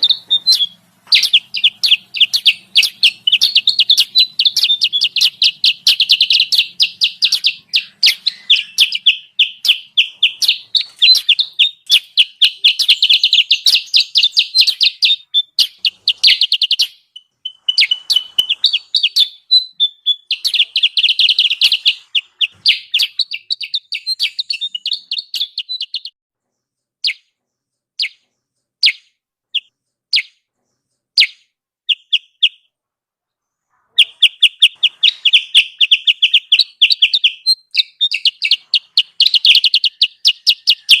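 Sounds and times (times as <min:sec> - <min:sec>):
bird chattering: 0:00.0 - 0:26.1, 0:31.2 - 0:32.7, 0:33.7 - 0:41.0.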